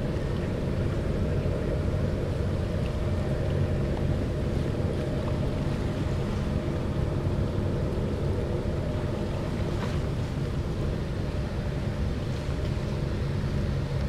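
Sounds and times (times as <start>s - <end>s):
motorboat engine drone: 0.0s - 14.0s
wind rumble on microphone: 0.0s - 14.0s.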